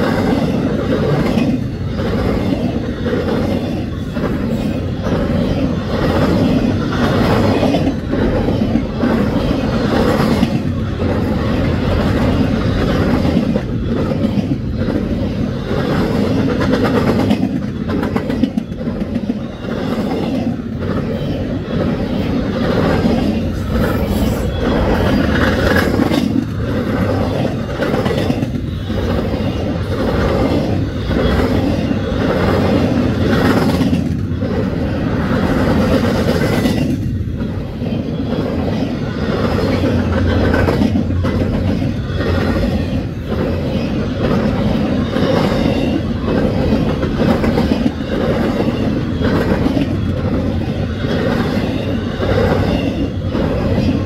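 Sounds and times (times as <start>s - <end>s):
freight train rumbling past: 0.0s - 54.0s
wheels clacking on rails: 0.0s - 54.0s.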